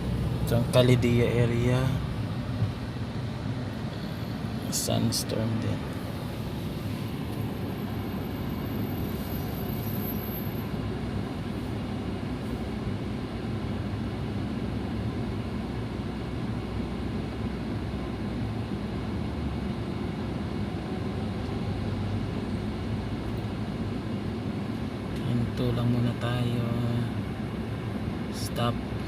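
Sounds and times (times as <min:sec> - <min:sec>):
car cabin road and engine noise: 0:00.0 - 0:29.0.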